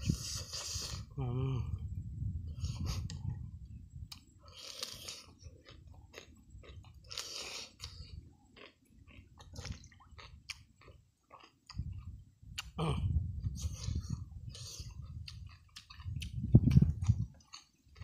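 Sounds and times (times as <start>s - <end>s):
man chewing raw vegetable: 0.0s - 1.2s, 2.4s - 18.0s.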